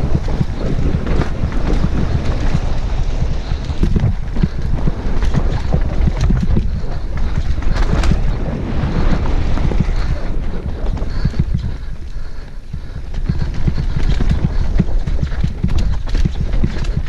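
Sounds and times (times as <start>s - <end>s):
bike knocks and rattles: 0.0s - 8.4s, 9.0s - 17.0s
bicycle tyre noise: 0.0s - 17.0s
wind buffeting microphone: 0.0s - 17.0s.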